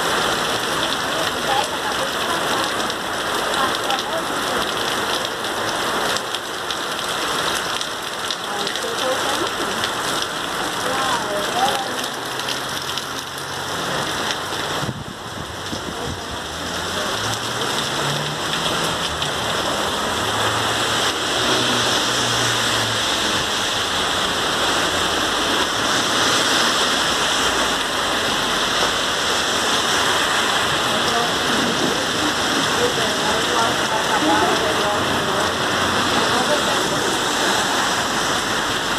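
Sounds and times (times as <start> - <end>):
heavy rain on street and cars: 0.0 - 38.9.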